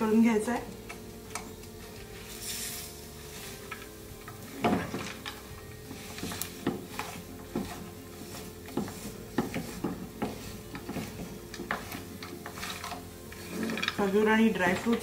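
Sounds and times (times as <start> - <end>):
spatula scraping frying pan: 0.8 - 15.0.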